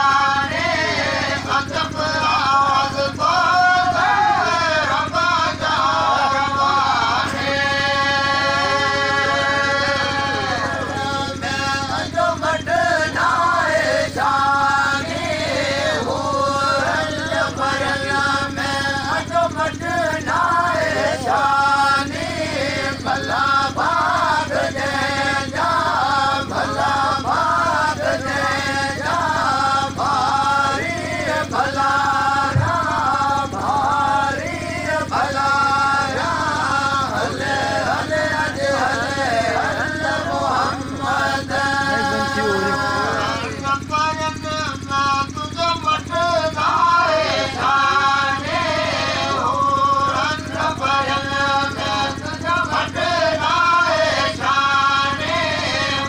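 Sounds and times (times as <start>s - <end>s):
man singing a chant: 0.0s - 56.0s
steady low hum: 0.0s - 56.0s.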